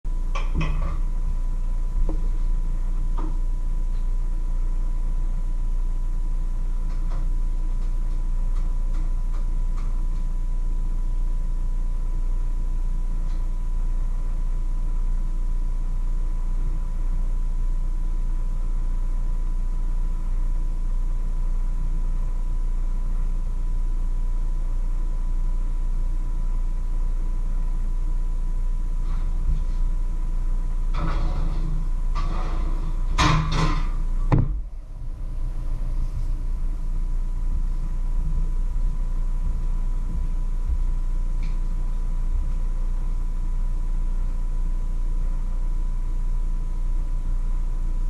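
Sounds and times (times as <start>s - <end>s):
faint whine: 0.1s - 48.0s
low hum: 0.1s - 48.0s.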